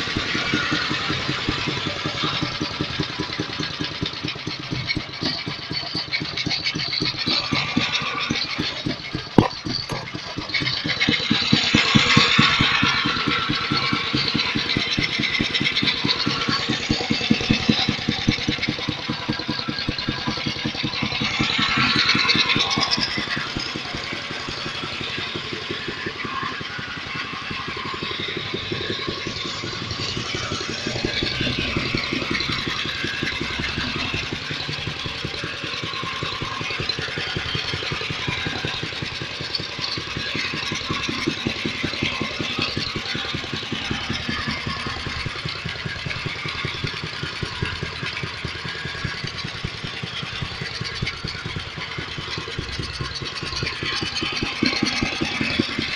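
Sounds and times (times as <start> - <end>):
small tractor engine idling: 0.0 - 55.9.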